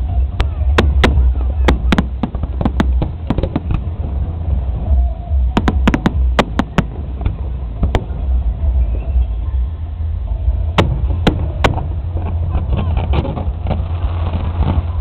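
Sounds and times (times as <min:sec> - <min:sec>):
fireworks bangs and crackles: 0:00.0 - 0:09.0, 0:10.8 - 0:15.0
low rumble: 0:00.0 - 0:15.0.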